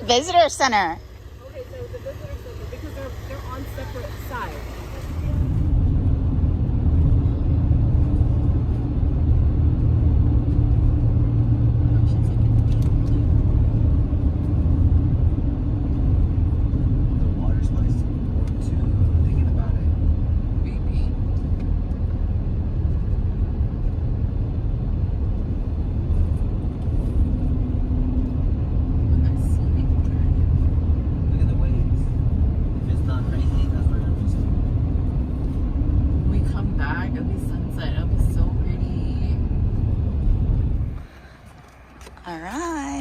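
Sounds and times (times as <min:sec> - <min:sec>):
car driving rumble: 0:00.0 - 0:43.0.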